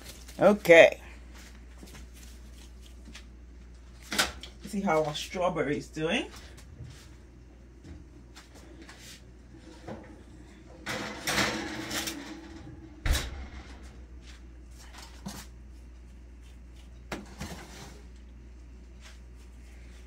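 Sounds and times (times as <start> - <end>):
rustling and shuffling: 0.0 - 5.2, 6.2 - 12.6, 13.5 - 20.0
low steady hum: 0.0 - 20.0.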